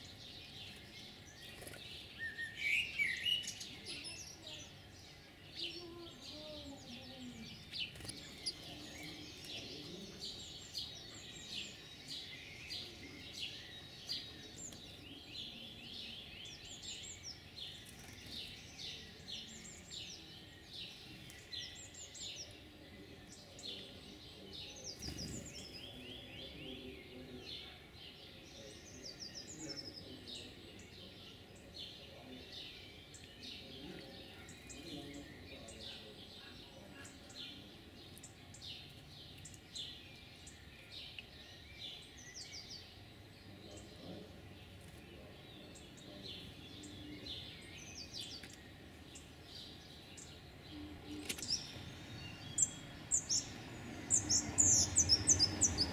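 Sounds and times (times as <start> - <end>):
songbirds singing and calling: 0.0 - 55.9.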